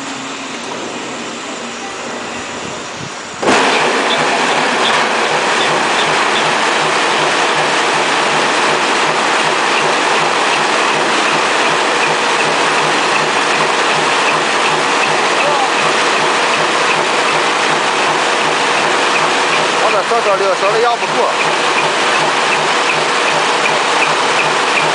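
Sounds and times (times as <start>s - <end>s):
rush of water: 0.0s - 24.9s
washing machine running: 0.0s - 24.9s.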